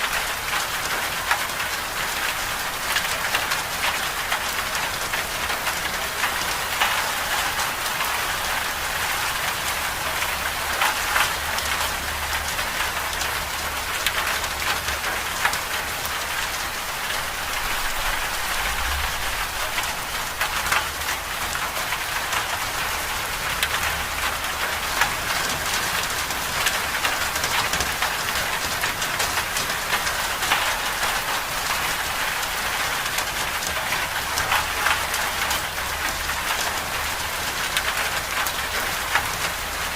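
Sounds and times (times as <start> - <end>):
hiss of falling precipitation: 0.0 - 39.9.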